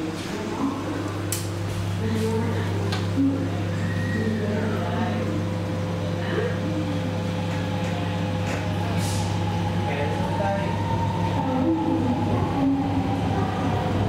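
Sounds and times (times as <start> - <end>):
vehicles humming: 0.0 - 14.0.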